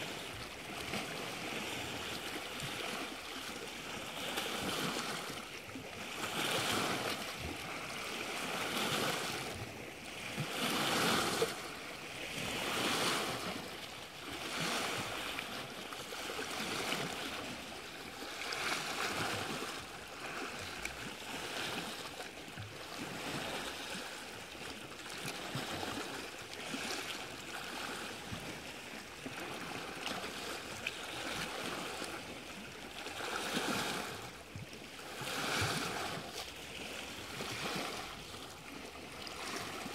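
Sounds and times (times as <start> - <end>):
waves washing and lapping: 0.0 - 39.9.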